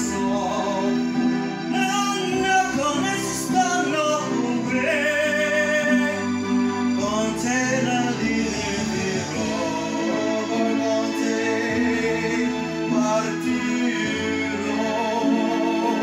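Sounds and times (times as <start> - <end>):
man singing karaoke: 0.0 - 16.0.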